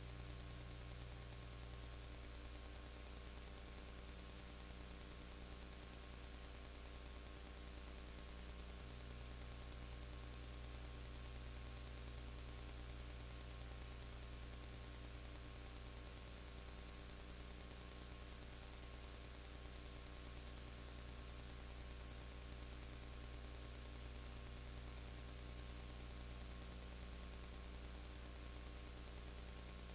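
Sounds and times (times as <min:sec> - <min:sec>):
electrical hum: 0:00.0 - 0:29.9.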